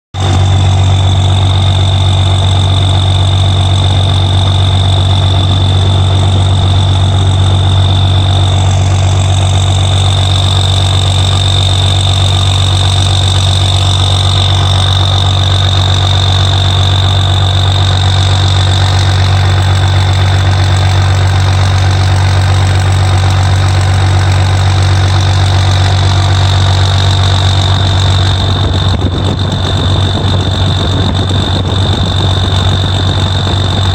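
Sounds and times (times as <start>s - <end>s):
diesel truck idling: 0.1s - 33.9s.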